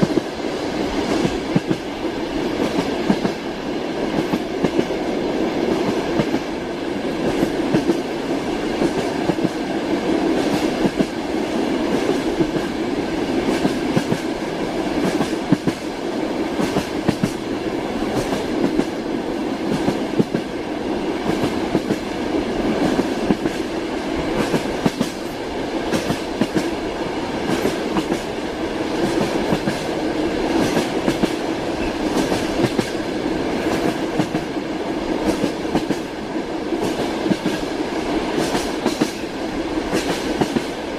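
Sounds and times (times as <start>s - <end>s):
train wheels clickety-clack: 0.0s - 40.9s.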